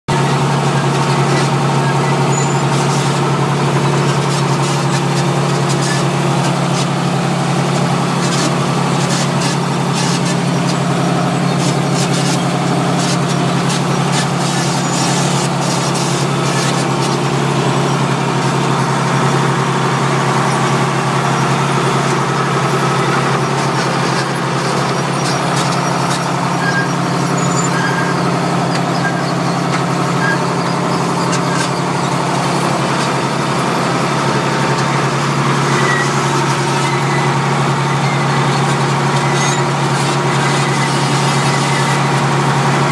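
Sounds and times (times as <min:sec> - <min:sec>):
tractor engine running under load: 0:00.1 - 0:42.9.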